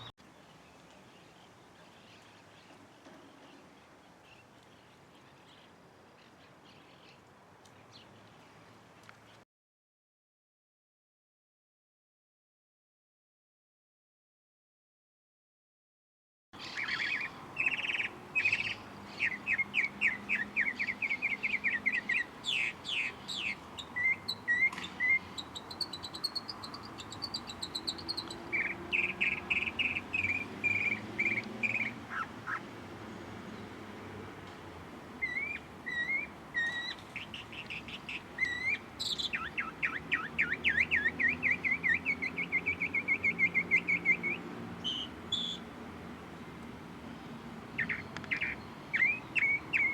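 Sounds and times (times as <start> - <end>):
songbirds chirping and trilling: 0.0 - 9.4, 16.6 - 49.9.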